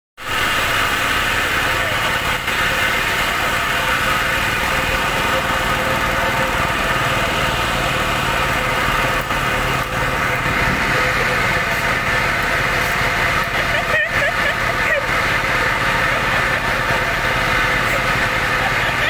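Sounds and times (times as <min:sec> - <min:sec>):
diesel engine running: 0:00.2 - 0:19.0.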